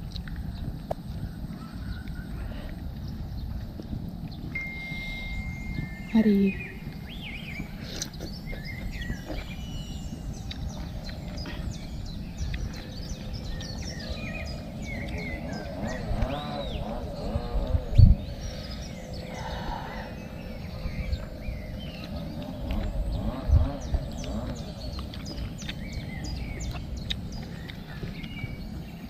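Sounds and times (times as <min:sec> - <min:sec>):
bird chirps: 0:00.0 - 0:29.0
wind rumble on microphone: 0:00.0 - 0:29.0.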